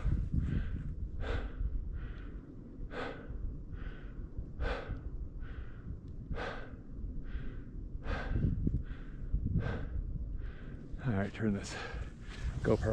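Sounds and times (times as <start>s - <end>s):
person breathing hard: 0.0s - 11.0s, 11.7s - 12.6s
steady low rumble: 0.0s - 12.9s.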